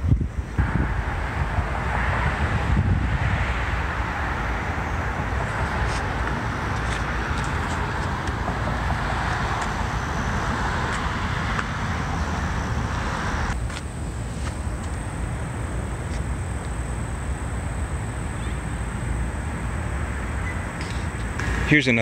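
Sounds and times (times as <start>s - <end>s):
city traffic road noise: 0.0s - 22.0s.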